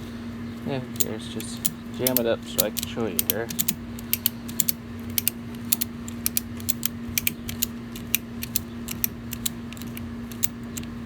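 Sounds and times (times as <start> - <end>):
ratchet strap clicking: 1.0 - 11.0.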